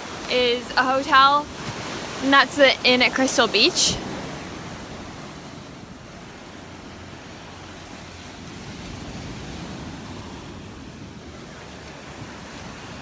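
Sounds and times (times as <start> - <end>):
surf washing ashore: 0.0 - 13.0.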